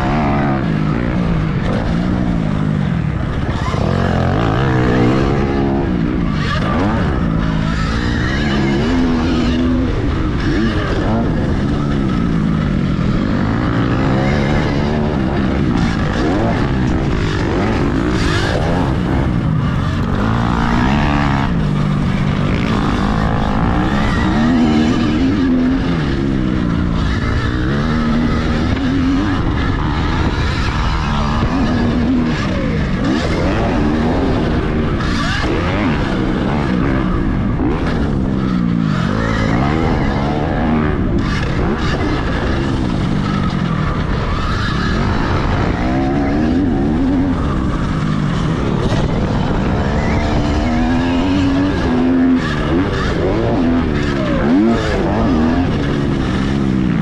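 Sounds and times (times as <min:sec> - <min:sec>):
dirtbike engines revving: 0:00.0 - 0:57.0.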